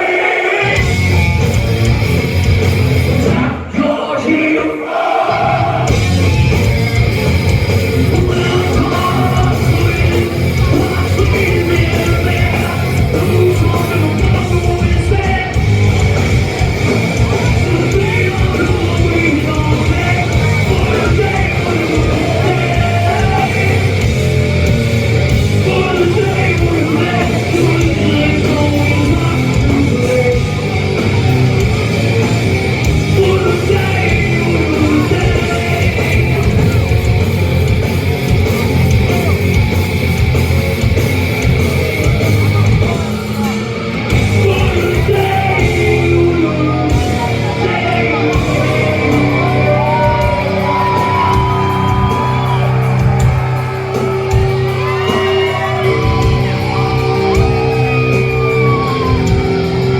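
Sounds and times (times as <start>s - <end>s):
distorted guitars: 0.0s - 4.3s, 5.2s - 59.9s
drums: 0.0s - 59.9s
yelled and sung vocals: 0.0s - 59.9s
bass guitar: 0.6s - 3.7s, 5.3s - 59.9s.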